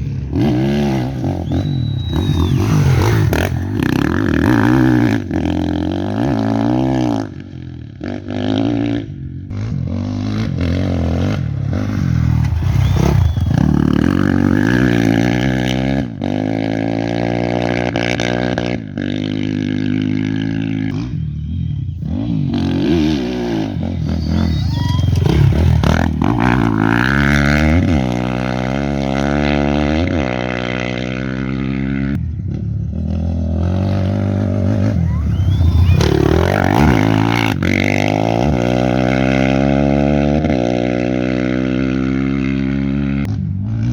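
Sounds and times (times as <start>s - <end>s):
motorcycles revving past: 0.0s - 43.9s.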